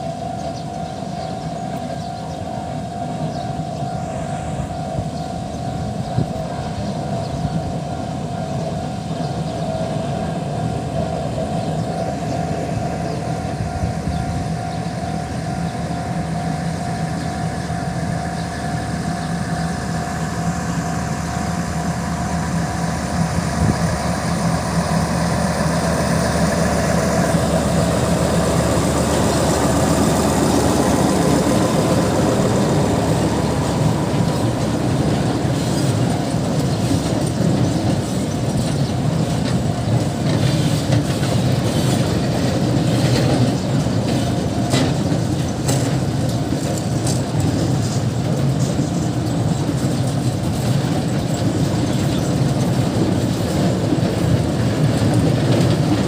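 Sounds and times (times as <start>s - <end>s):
train engine running with whine: 0.0s - 56.0s.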